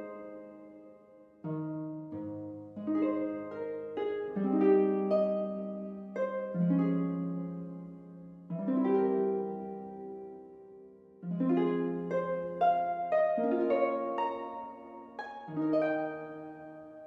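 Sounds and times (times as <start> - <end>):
gentle plucked instrumental music: 0.0 - 17.0.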